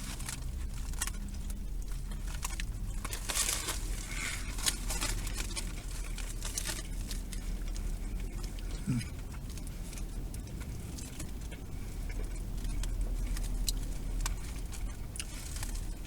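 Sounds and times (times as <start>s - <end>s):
person biting and chewing food: 0.0s - 16.0s
small crackles and rustles: 0.0s - 16.0s
steady low hum: 0.0s - 16.0s.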